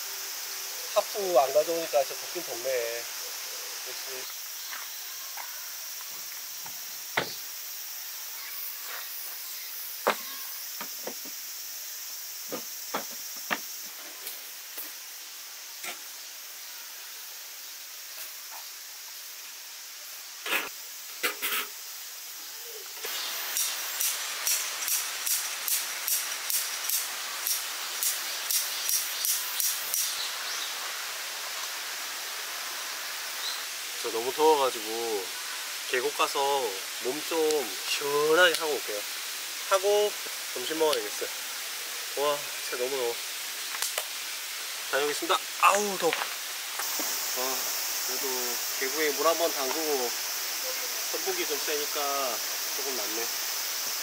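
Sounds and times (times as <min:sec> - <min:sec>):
cicada pulsing buzzes: 0:00.0 - 0:54.0
insects droning: 0:00.0 - 0:54.0
steady outdoor hiss: 0:00.0 - 0:54.0.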